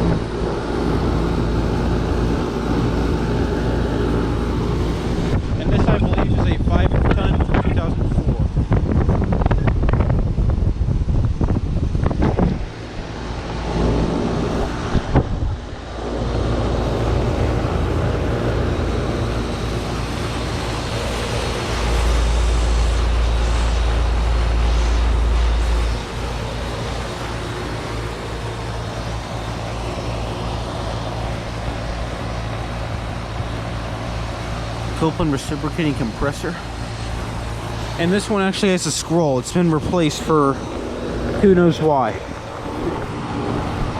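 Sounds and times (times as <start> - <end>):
air conditioner running: 0.0 - 43.9
wind buffeting microphone: 0.0 - 43.9.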